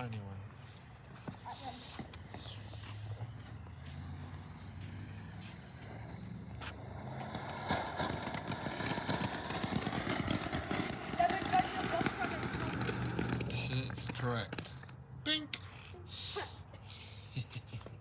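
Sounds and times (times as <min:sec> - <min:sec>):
firework fountain hissing and crackling: 0:00.0 - 0:14.7.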